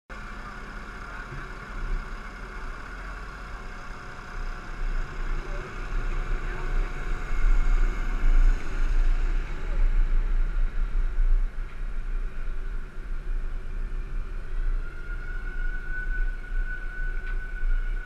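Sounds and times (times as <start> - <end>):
truck engine rumbling: 0.1 - 18.0.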